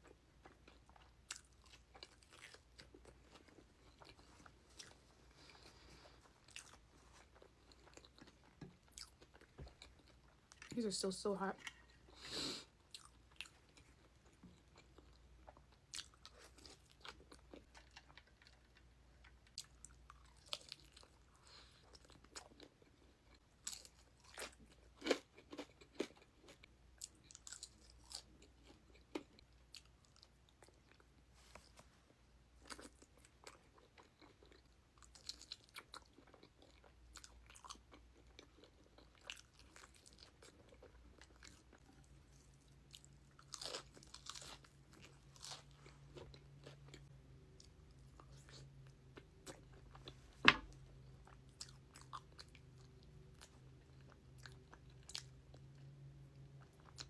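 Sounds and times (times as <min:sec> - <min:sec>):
person chewing and biting food: 0:00.0 - 0:10.7, 0:11.7 - 0:31.0, 0:32.6 - 0:57.0.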